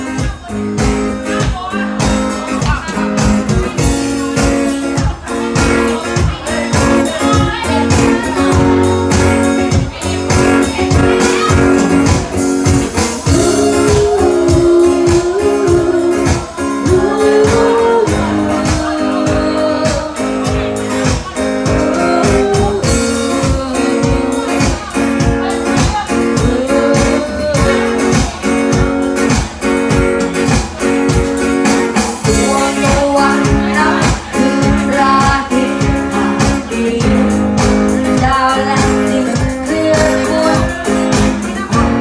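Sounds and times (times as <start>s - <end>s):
guitar-led band music: 0.0s - 42.0s
lead melody line: 0.0s - 42.0s.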